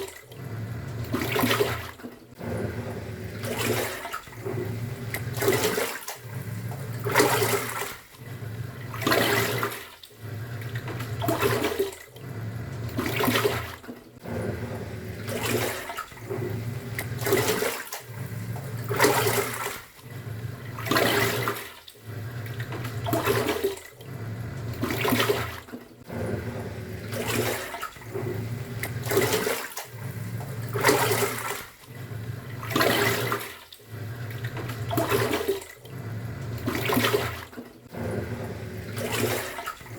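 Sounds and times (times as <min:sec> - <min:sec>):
washing machine motor humming: 0:00.0 - 0:39.9
water sloshing in drum: 0:00.0 - 0:39.9.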